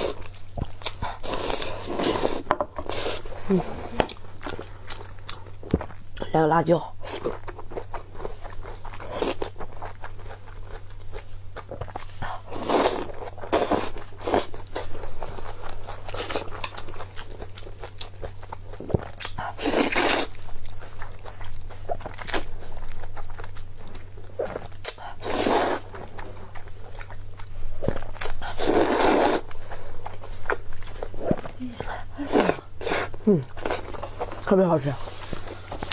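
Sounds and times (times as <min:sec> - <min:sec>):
chewing with crunchy bites: 0:00.0 - 0:06.3, 0:06.9 - 0:35.9
low electrical hum: 0:00.0 - 0:35.9.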